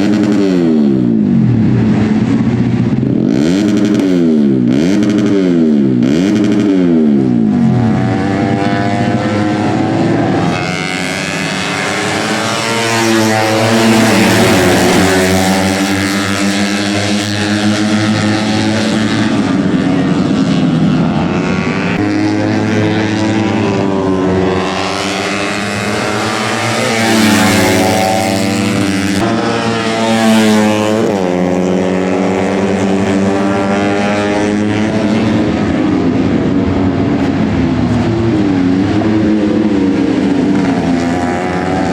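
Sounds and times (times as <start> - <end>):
racing motorcycle engines: 0.0 - 41.9.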